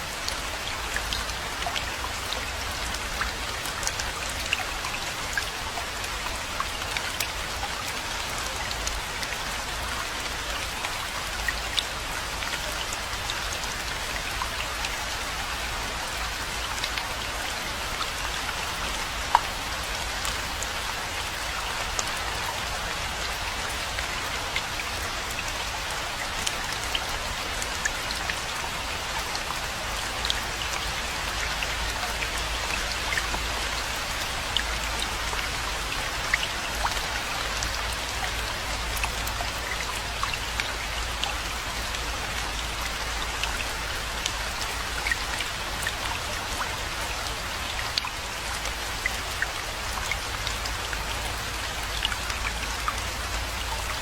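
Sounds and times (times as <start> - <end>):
rainfall with dripping drops: 0.0 - 54.0.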